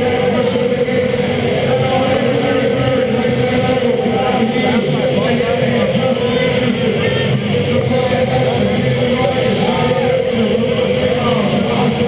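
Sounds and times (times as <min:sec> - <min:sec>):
hubbub of people in hall: 0:00.0 - 0:12.0.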